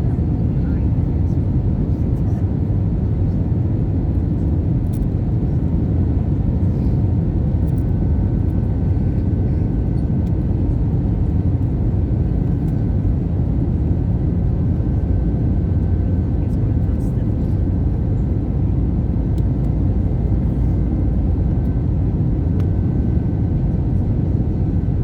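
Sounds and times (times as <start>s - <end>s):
aircraft cabin engine rumble: 0.0s - 25.0s.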